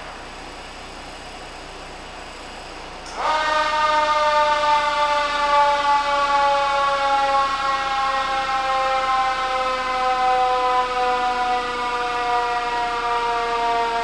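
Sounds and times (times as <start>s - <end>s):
fire truck siren: 0.0s - 1.0s, 2.8s - 14.0s.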